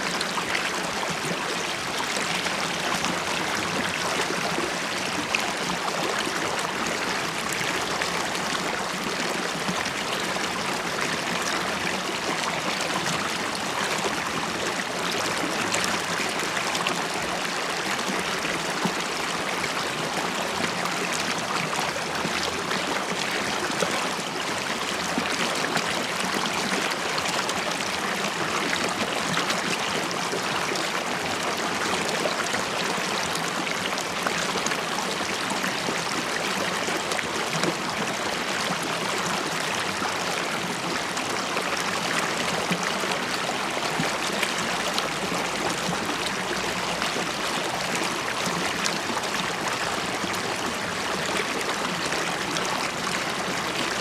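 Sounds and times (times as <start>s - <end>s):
river water gurgling over stones: 0.0s - 54.0s.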